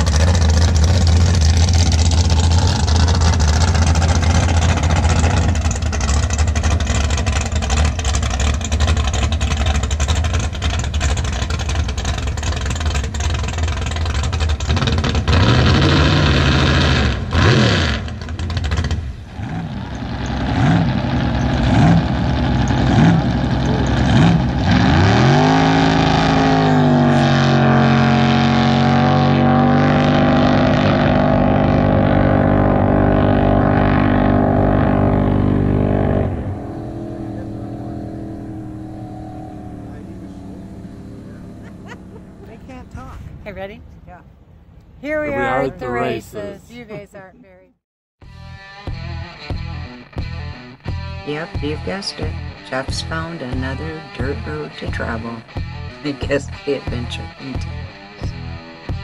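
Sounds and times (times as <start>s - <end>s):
racing boat engines droning: 0.0s - 47.2s, 48.4s - 59.0s.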